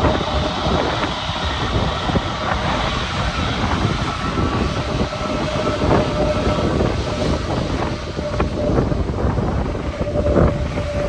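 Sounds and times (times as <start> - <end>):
jet engines rushing: 0.0 - 11.0
wind buffeting microphone: 0.0 - 11.0.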